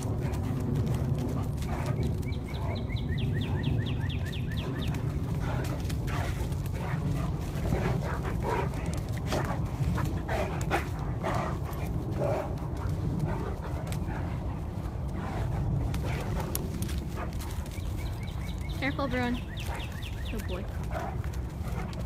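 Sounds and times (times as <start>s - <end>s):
dogs scuffling: 0.0s - 22.0s
wind rumble on microphone: 0.0s - 22.0s.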